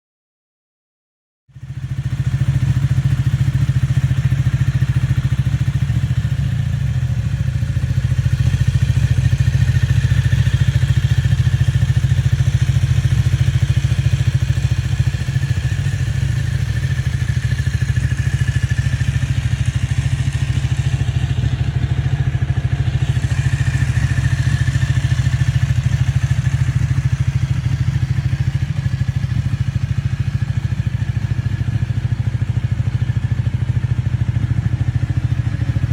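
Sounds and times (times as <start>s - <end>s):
motorcycle engine idling: 1.5s - 35.9s.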